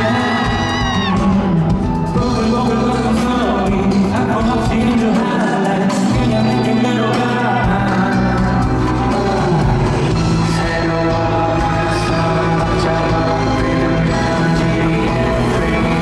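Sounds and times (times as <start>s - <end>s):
live pop band: 0.0s - 16.0s
person singing: 0.0s - 16.0s.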